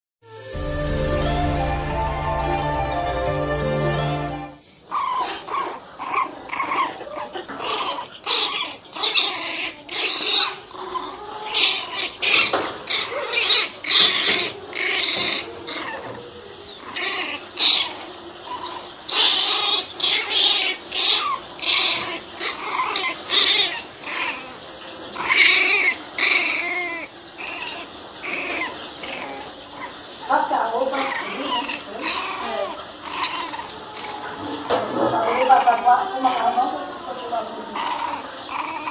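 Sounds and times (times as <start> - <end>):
puppies yapping: 1.1 - 38.9
puppies growling: 1.2 - 38.9.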